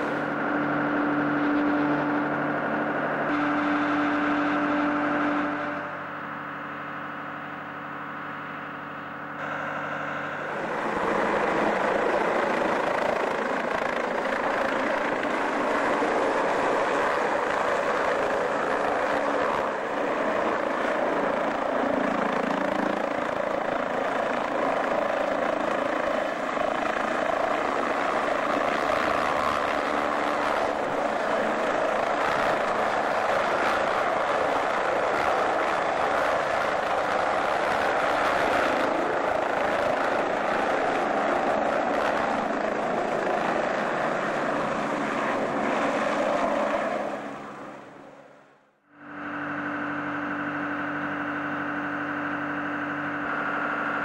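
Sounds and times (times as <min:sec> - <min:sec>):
helicopter hovering overhead: 0:00.0 - 0:54.0
steady hum: 0:00.0 - 0:54.0.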